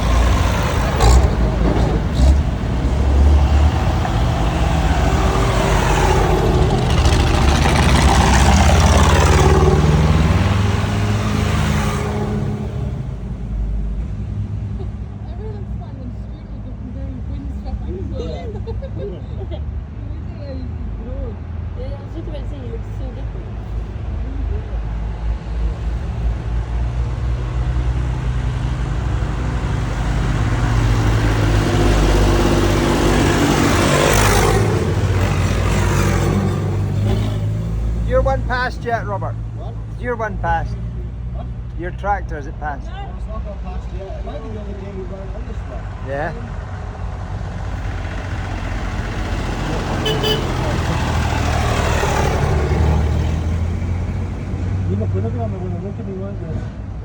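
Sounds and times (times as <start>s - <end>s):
tractor engine passing by: 0.0s - 56.7s.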